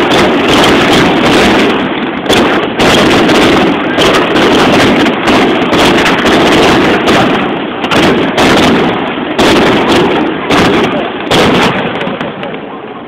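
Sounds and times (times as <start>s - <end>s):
fireworks bursting with loud bangs: 0.0s - 13.0s
rumbling echo: 0.0s - 13.0s.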